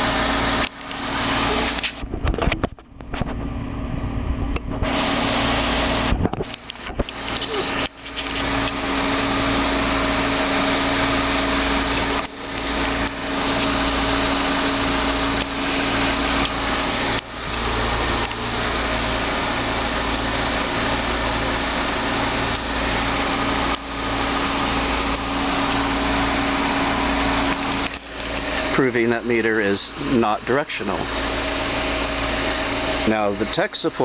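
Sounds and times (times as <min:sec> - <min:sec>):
heat pump running: 0:00.0 - 0:34.0
car engine idling: 0:04.5 - 0:34.0.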